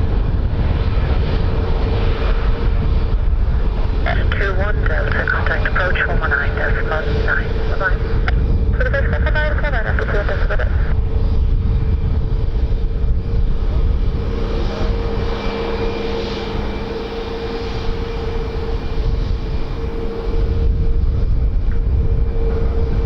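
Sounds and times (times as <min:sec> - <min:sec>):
airliner engines rumbling: 0:00.0 - 0:23.0.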